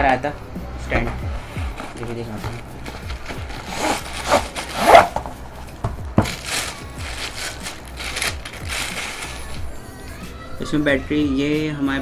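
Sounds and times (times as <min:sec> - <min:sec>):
rubbing and scraping of light stand: 0:00.0 - 0:10.5.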